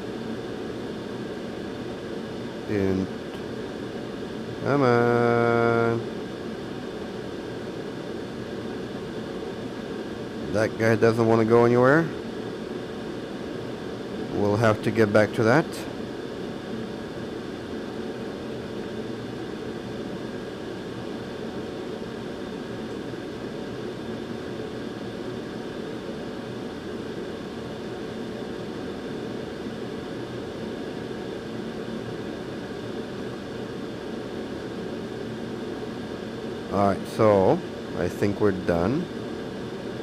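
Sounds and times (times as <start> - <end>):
hot air blower hissing: 0.0 - 40.0.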